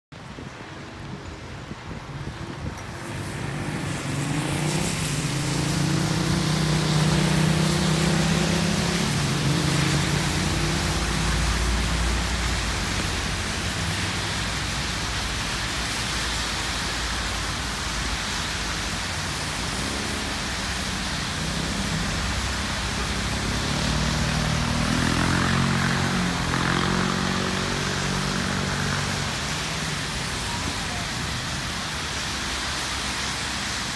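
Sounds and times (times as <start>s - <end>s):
tyres hissing on wet asphalt: 0.2s - 33.9s
passing vehicle engine: 2.7s - 33.9s.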